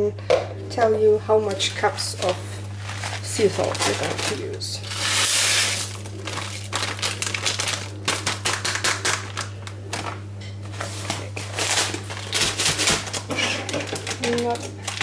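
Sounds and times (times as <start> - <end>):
plastic bag crinkling: 1.5 - 10.2, 10.8 - 15.0.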